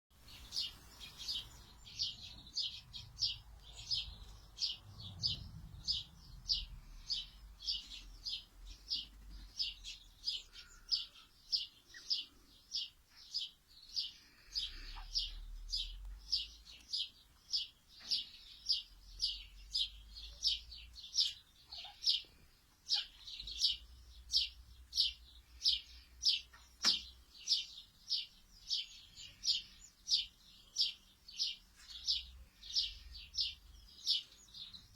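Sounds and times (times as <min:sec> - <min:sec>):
bird chirping: 0:00.1 - 0:34.9.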